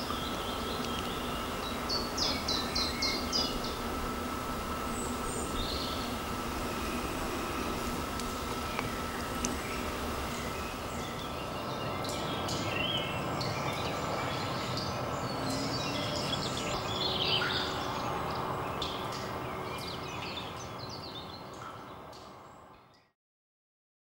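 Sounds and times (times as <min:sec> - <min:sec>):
outdoor background noise: 0:00.0 - 0:23.1.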